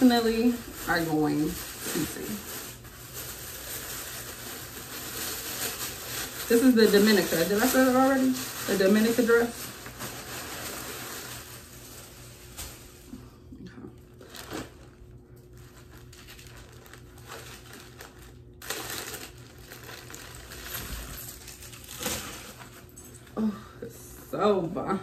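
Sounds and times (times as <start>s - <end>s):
tissue paper rustling: 0.0s - 13.4s, 14.1s - 23.6s.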